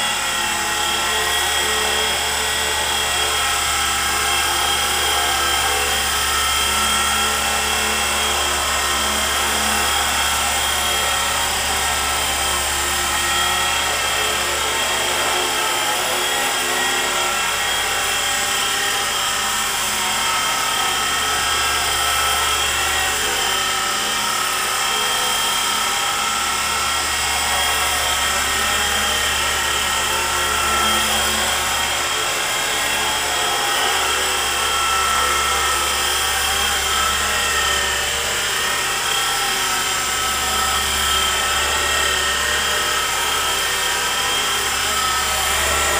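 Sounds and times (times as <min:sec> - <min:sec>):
electric motor whine: 0:00.0 - 0:45.9
rotor blades whirring: 0:00.0 - 0:45.9.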